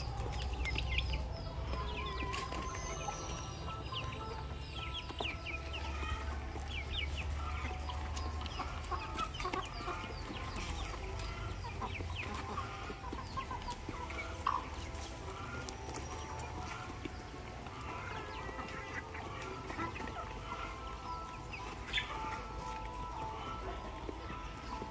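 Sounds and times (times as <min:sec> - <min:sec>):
chickens clucking: 0:00.0 - 0:24.9
chicks chirping: 0:00.0 - 0:24.9.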